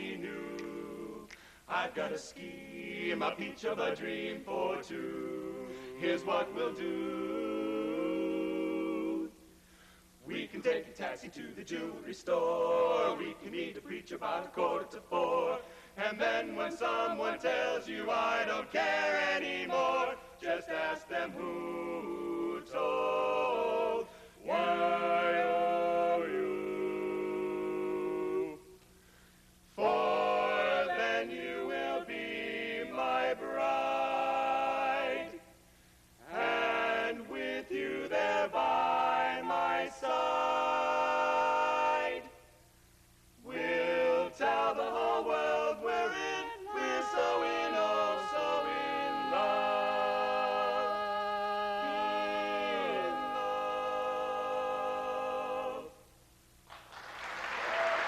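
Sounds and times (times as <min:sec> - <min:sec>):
quartet singing a cappella: 0:00.0 - 0:09.4, 0:10.2 - 0:28.8, 0:29.8 - 0:35.6, 0:36.2 - 0:42.5, 0:43.4 - 0:56.2.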